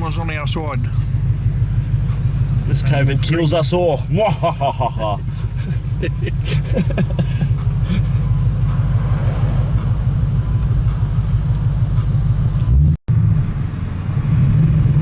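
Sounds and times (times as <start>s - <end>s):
car engine drone: 0.0s - 15.0s
tyre and road noise: 0.0s - 15.0s.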